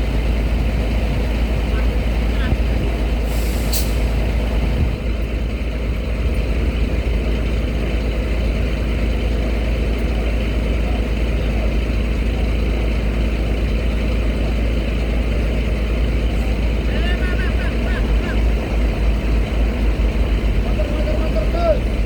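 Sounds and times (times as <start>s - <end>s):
heavy engines rumbling: 0.0s - 22.0s.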